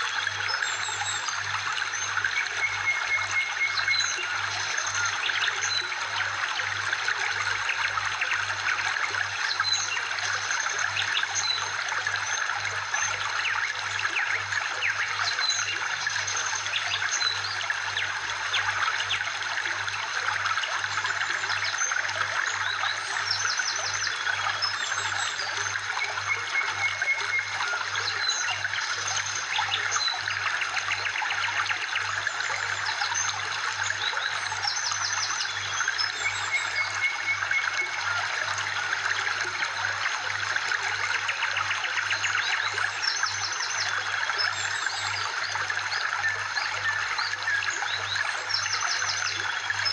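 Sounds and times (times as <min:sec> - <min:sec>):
trickling water: 0:00.0 - 0:49.9.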